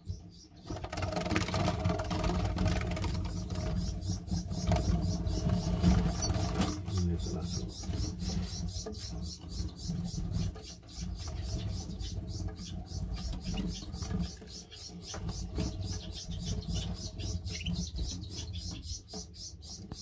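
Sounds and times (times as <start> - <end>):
canaries cheeping: 0.0 - 20.0.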